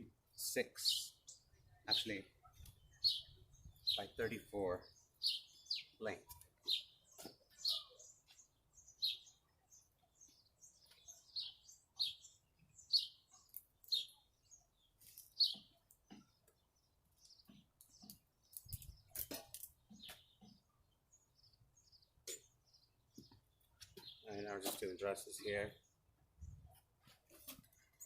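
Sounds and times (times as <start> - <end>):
bird chirping: 0.0 - 26.8.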